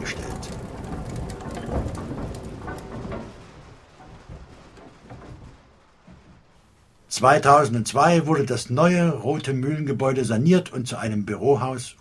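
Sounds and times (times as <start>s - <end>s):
noisy rumble with crackles: 0.0s - 12.0s.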